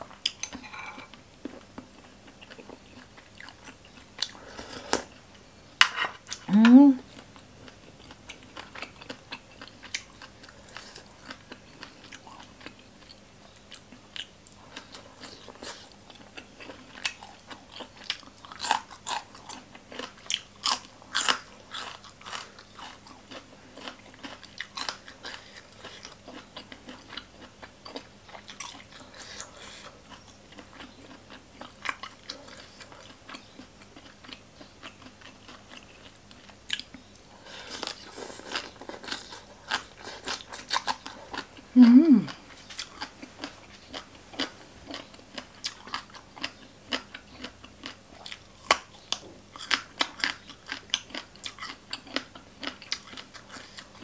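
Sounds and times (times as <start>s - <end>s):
wet chewing: 7.6s - 54.0s.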